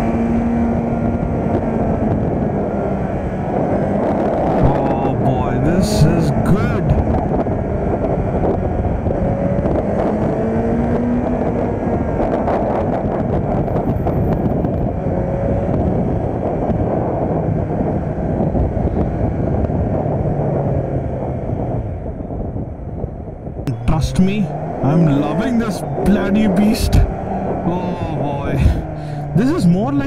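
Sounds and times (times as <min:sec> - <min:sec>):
motorcycle engine accelerating: 0:00.0 - 0:22.0, 0:23.7 - 0:30.0
wind rushing over microphone: 0:00.0 - 0:30.0.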